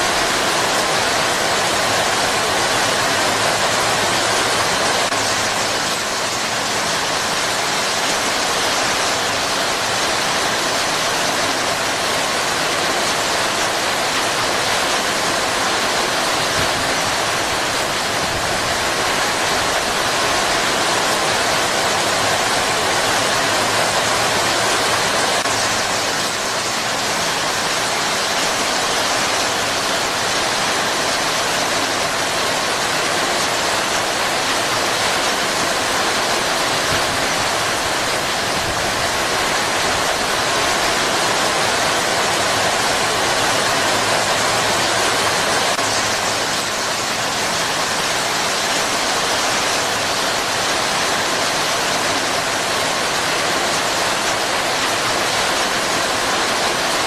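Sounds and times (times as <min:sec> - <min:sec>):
heavy rain on foliage: 0:00.0 - 0:57.0.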